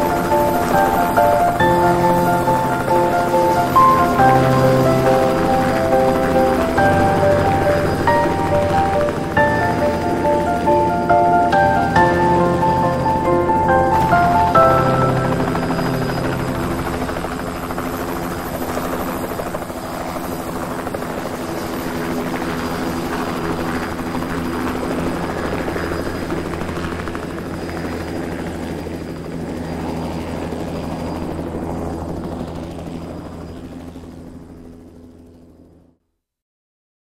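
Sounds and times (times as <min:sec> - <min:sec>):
helicopter hovering: 0:00.0 - 0:35.8.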